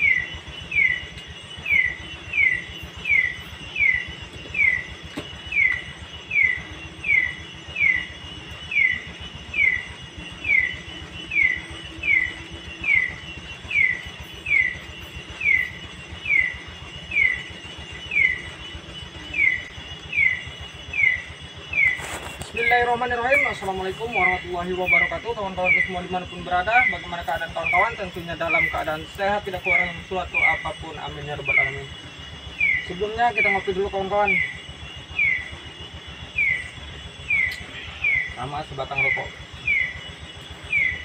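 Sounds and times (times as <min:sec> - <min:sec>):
insects humming: 0:00.0 - 0:41.0.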